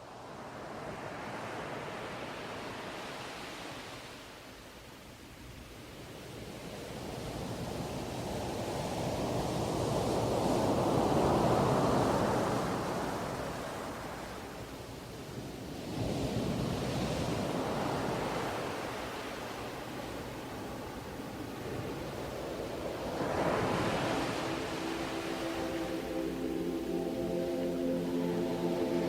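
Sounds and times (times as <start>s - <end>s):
sea waves washing onto shore: 5.5s - 29.0s.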